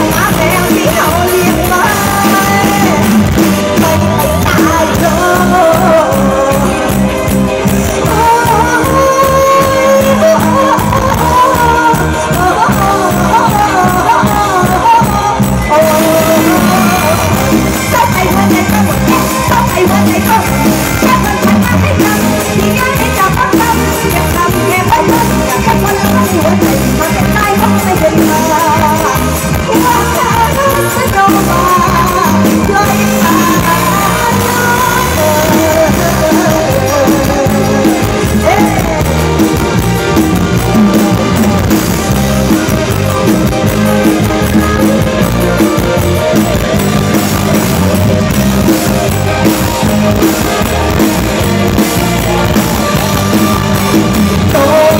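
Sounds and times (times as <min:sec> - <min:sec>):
amplified live band music: 0:00.0 - 0:54.9.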